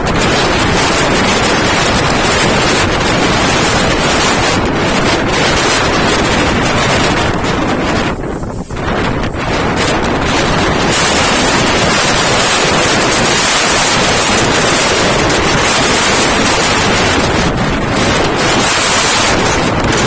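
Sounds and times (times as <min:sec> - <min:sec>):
heavy surf: 0:00.0 - 0:20.0
strong wind buffeting microphone: 0:00.0 - 0:20.0.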